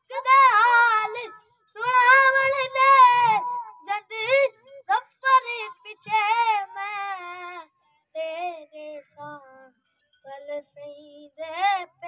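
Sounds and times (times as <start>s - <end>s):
boy singing unaccompanied: 0.0s - 12.0s.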